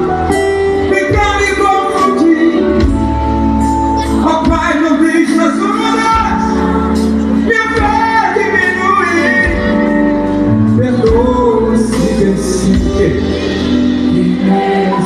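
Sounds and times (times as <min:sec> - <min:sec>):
backing band with bass: 0:00.0 - 0:15.0
man singing: 0:00.8 - 0:15.0.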